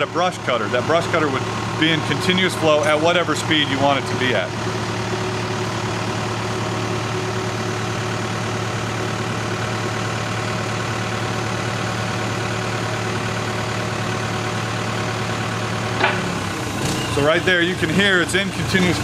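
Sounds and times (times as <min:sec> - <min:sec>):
excavator engine running: 0:00.0 - 0:19.0
hydraulic oil over relief valve: 0:00.0 - 0:19.0.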